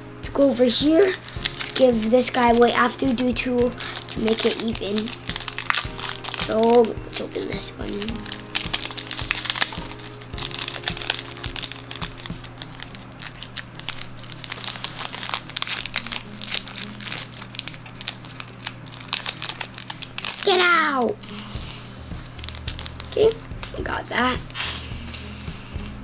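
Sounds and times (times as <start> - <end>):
background music: 0.0 - 26.0
foil wrapper crinkling: 0.4 - 25.3.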